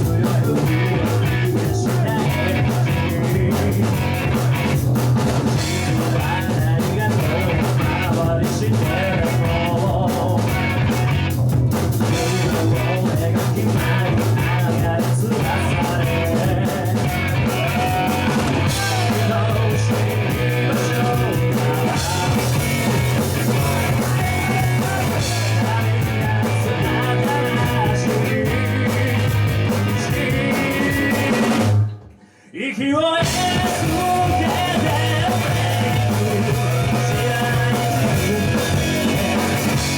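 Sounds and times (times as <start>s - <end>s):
drum kit snare and rimshots: 0.0s - 32.2s, 33.2s - 39.9s
rock band playing: 0.0s - 32.2s, 33.2s - 39.9s.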